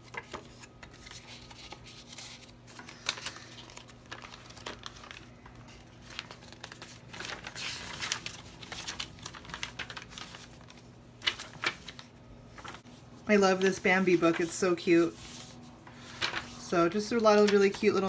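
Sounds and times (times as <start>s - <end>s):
paper pages rustling: 0.0s - 18.0s.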